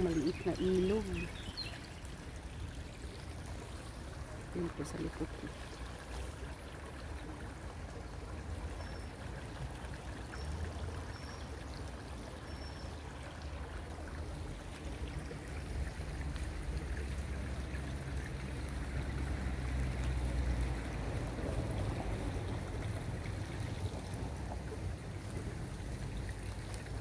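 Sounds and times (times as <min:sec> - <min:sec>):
stream trickling over rocks: 0:00.0 - 0:27.0.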